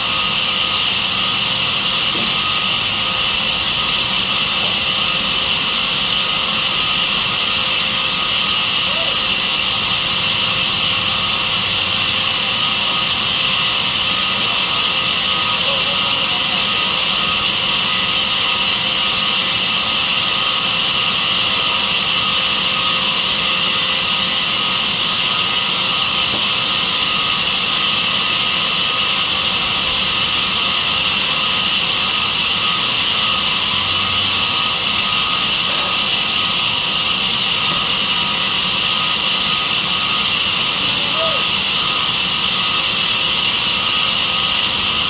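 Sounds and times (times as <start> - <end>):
sawmill saw hissing and whining: 0.0 - 45.0.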